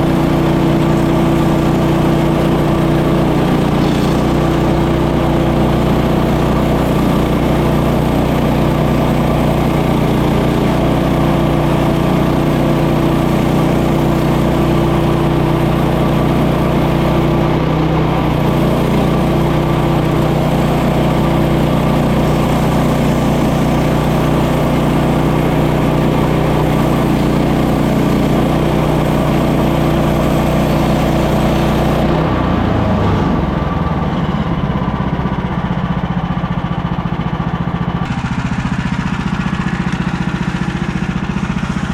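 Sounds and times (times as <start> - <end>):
bandsaw mill running: 0.0 - 41.9
gas engine: 0.0 - 41.9.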